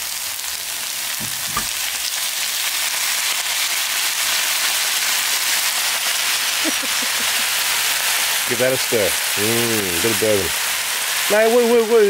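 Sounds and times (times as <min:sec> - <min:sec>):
stir-fry sizzling in a frying pan: 0:00.0 - 0:12.0.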